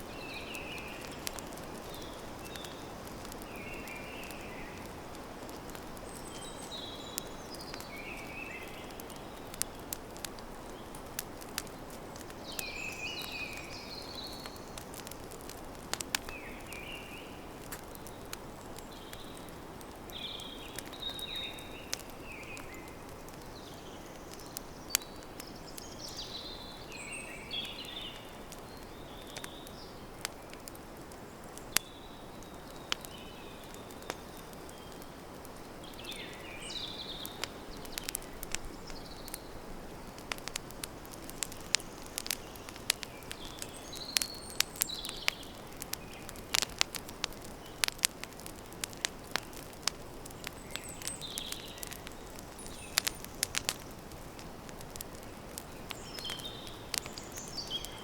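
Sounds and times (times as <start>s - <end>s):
birds chirping: 0.0s - 9.9s, 16.0s - 30.7s, 31.4s - 58.0s
campfire crackling: 0.0s - 58.0s.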